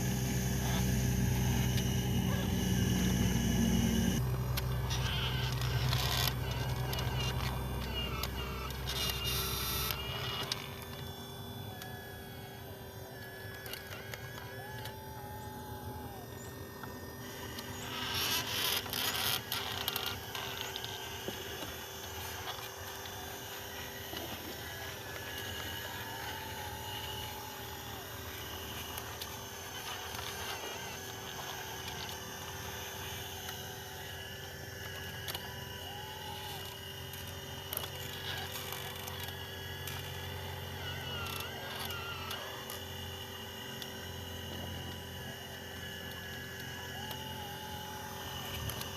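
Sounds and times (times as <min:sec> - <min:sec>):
small electric motors whining: 0:00.0 - 0:48.9.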